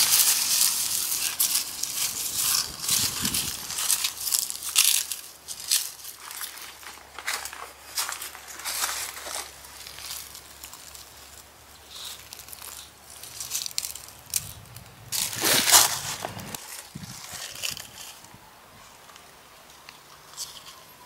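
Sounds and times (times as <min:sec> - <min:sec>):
dry leaves crackling and rustling: 0:00.0 - 0:21.0.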